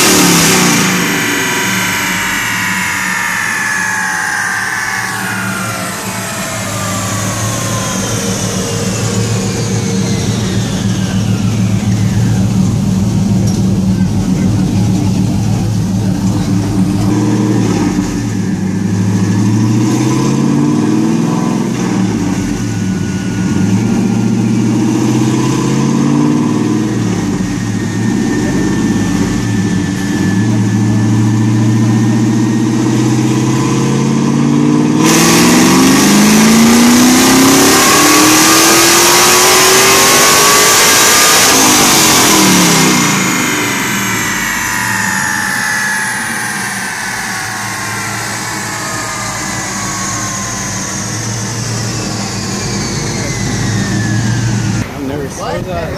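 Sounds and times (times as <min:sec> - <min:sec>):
car engine revving on dynamometer: 0:00.0 - 0:55.8.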